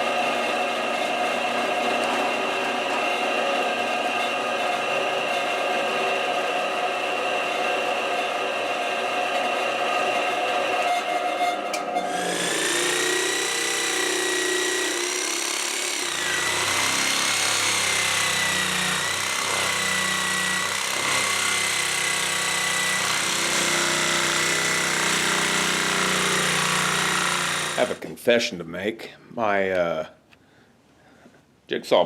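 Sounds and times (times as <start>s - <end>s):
electric jigsaw cutting: 0.0s - 11.1s, 11.7s - 28.0s.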